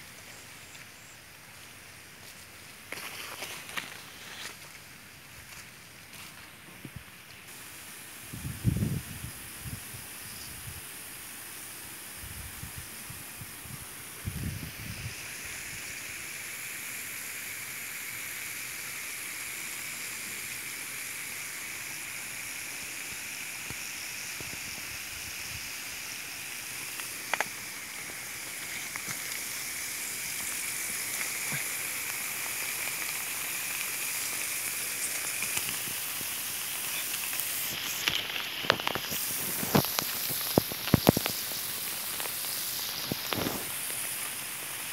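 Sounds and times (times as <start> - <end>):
sprinklers spraying water: 0.0 - 44.9.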